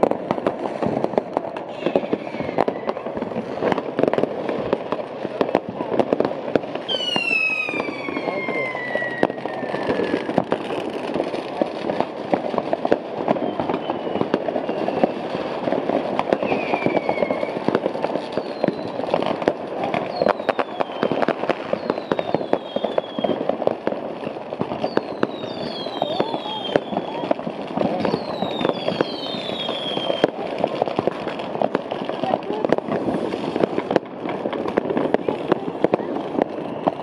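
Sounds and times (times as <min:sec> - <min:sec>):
firecracker bangs and crackling: 0:00.0 - 0:37.0
whistling fireworks: 0:00.0 - 0:37.0.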